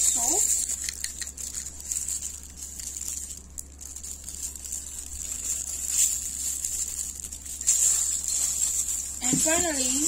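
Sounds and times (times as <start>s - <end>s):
salt pattering onto meat: 0.2s - 10.0s.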